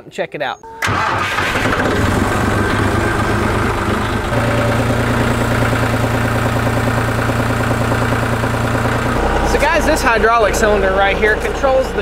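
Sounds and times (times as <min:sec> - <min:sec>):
tractor diesel engine idling: 0:00.8 - 0:12.0.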